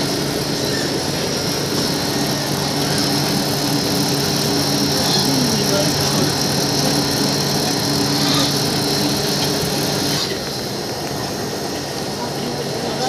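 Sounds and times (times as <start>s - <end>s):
lathe motor humming and rattling: 0.0s - 13.0s.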